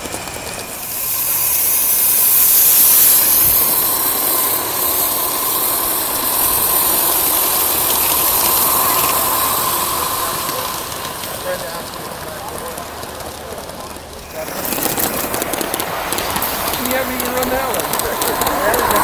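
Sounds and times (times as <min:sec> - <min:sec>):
model locomotive hissing steam: 0:00.0 - 0:19.0.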